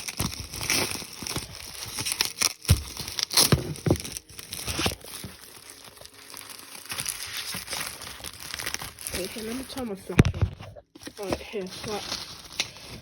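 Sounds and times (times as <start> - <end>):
packing material crinkling: 0.0 - 13.0.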